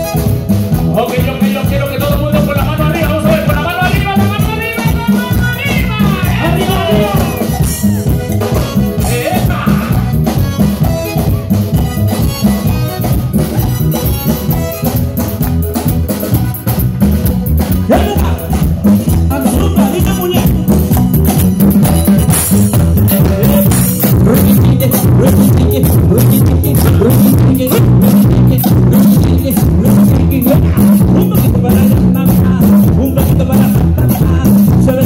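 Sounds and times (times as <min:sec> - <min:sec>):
live band music: 0:00.0 - 0:35.0.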